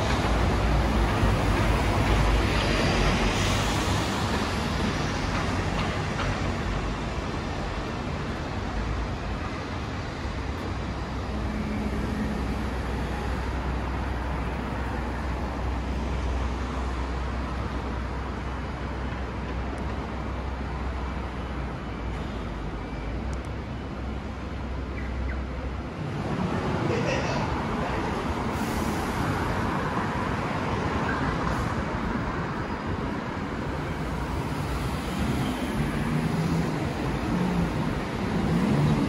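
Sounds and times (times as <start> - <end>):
passing cars: 0.0 - 39.0.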